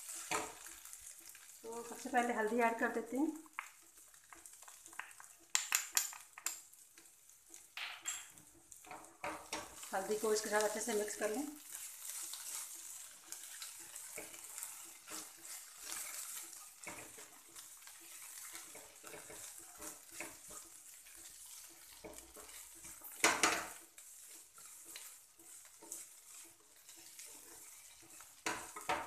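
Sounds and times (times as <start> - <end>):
potatoes sizzling in oil: 0.0 - 29.0
spatula scraping pan: 0.0 - 29.0.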